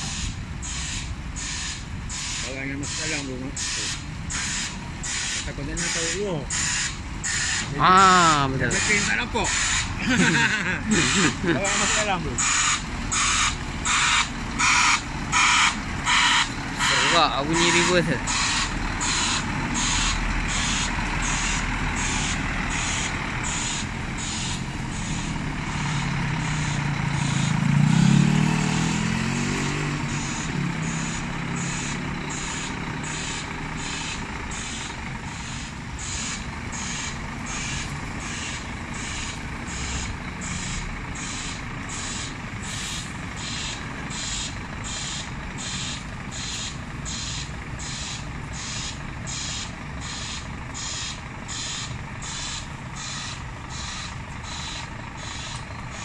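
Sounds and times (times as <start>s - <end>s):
diesel engine revving: 0.0s - 56.0s
truck reversing alarm beeping: 0.0s - 56.0s.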